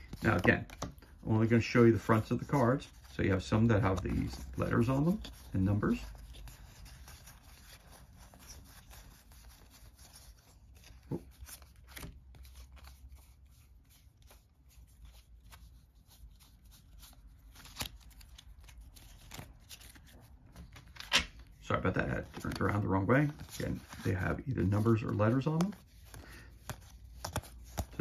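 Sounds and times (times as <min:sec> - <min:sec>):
cards rustling and shuffling: 0:00.0 - 0:28.0.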